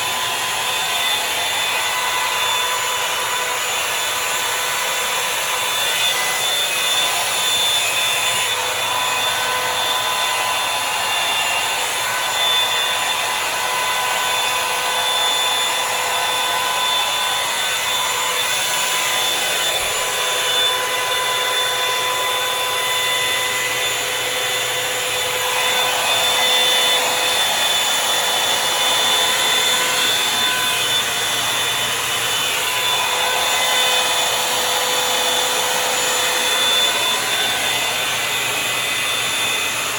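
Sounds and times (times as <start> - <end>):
hot-air brush running: 0.0 - 39.9.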